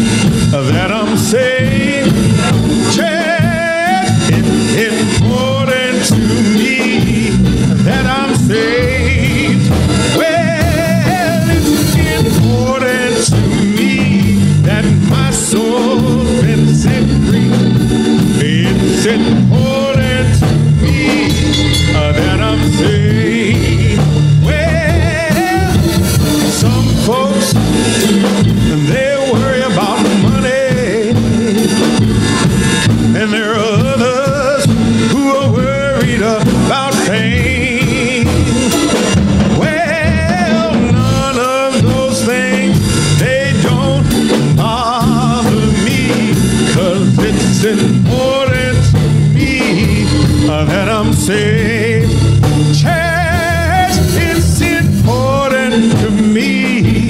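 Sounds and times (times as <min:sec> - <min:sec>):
instrumental accompaniment: 0:00.0 - 0:57.0
voices singing gospel: 0:00.0 - 0:57.0.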